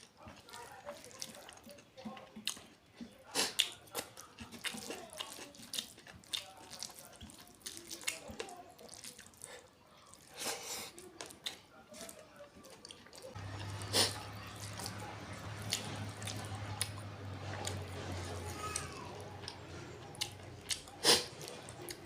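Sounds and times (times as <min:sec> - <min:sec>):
wet chewing and smacking: 0:00.0 - 0:22.0.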